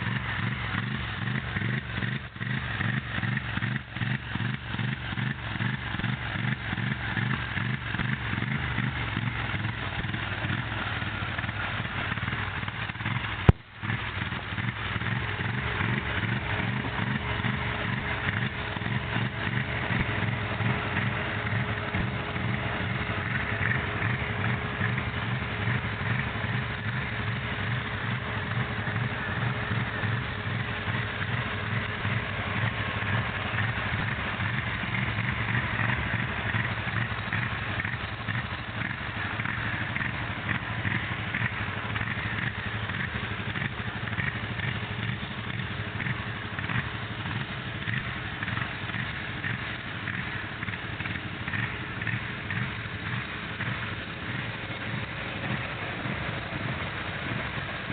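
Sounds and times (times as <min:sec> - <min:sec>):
engine running roughly: 0:00.0 - 0:57.9.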